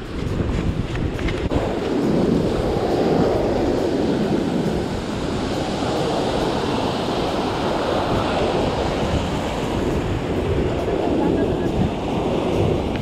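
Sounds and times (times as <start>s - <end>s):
ocean surf washing up beach: 0.0s - 13.0s.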